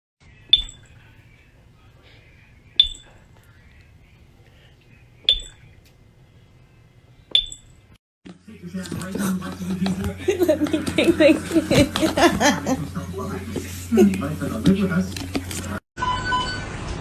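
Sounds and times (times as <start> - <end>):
faint low hum: 0.2 - 15.8.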